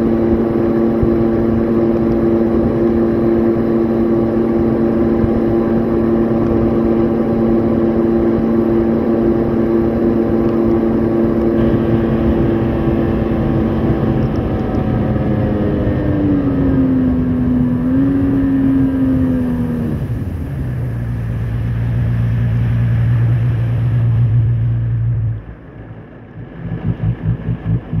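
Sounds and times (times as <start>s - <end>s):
watercraft engine running: 0.0s - 28.0s.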